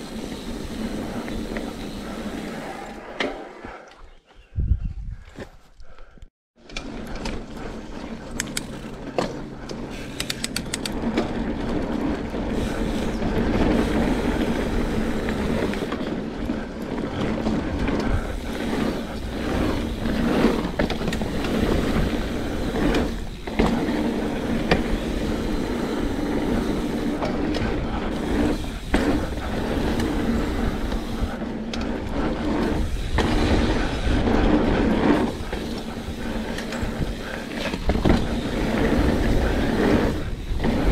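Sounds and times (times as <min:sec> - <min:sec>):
bike rattling over bumps: 0:00.0 - 0:03.5, 0:06.6 - 0:40.9
bike tyres rolling on dirt: 0:00.0 - 0:03.8, 0:06.6 - 0:40.9.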